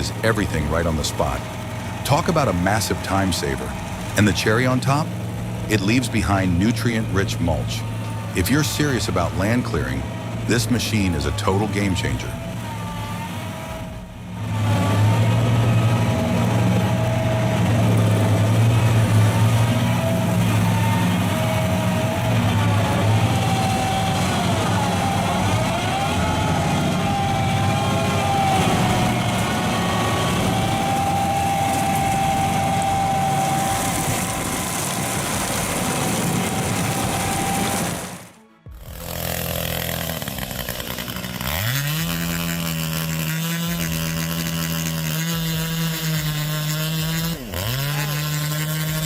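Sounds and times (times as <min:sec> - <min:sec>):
heavy machine engine running: 0:00.0 - 0:49.0.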